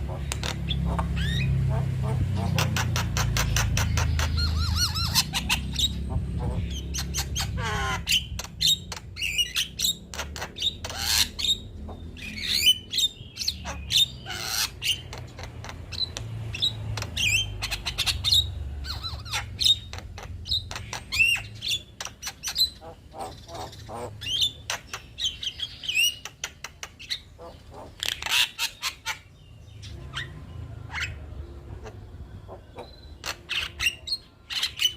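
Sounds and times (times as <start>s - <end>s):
myna bird chattering song: 0.0s - 34.9s.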